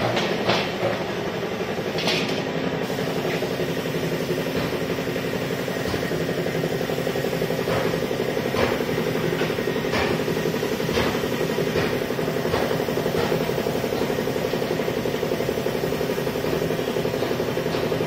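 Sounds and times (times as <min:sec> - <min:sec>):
air compressor pulsing hum: 0:00.0 - 0:18.0.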